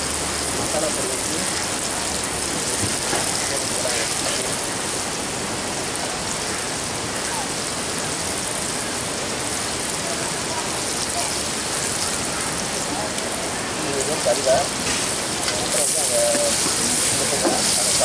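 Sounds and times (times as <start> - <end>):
vegetables frying in oil: 0.0 - 18.0.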